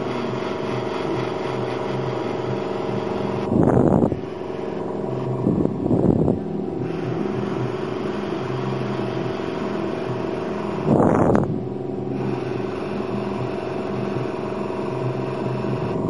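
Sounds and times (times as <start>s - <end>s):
airbrush compressor motor running: 0.0s - 16.0s.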